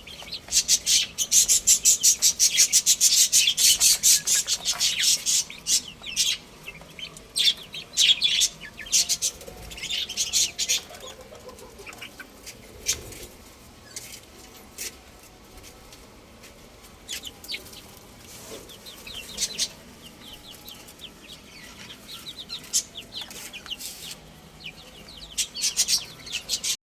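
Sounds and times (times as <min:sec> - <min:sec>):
baby chicks peeping: 0:00.0 - 0:26.8.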